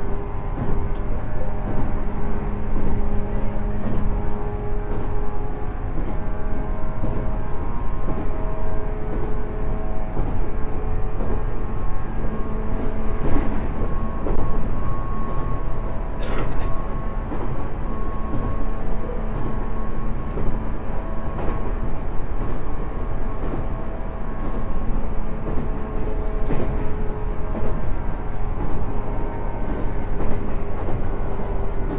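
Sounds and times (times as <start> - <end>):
faint rail-joint clacks: 0.0 - 31.9
train wheels rumbling on rail: 0.0 - 31.9.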